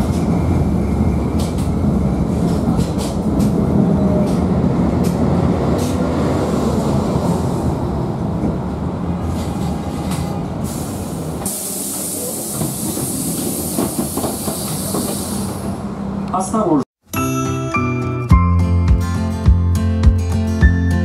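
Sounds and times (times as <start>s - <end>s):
tram wheels rumbling: 0.0s - 16.8s.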